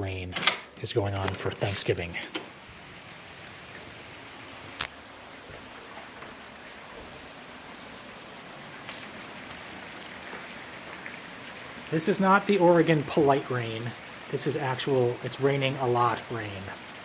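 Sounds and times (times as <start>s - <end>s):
heavy rain: 1.1s - 17.0s.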